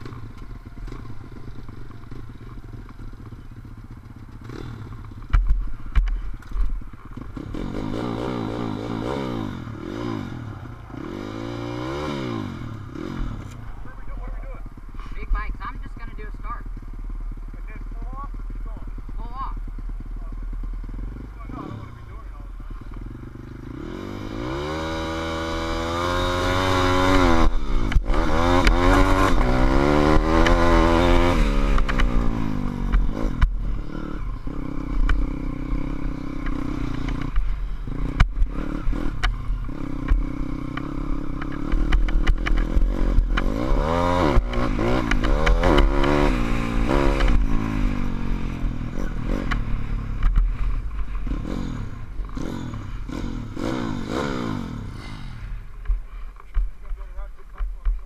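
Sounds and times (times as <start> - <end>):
bike rattling over bumps: 0.0 - 58.0
motorbike engine revving: 0.0 - 58.0.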